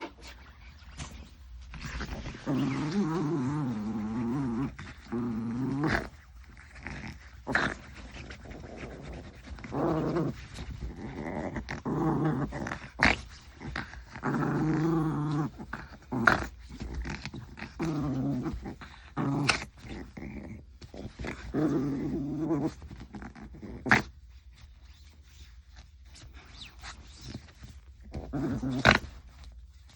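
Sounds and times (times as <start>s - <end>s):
dog play-growling: 0.0s - 29.9s.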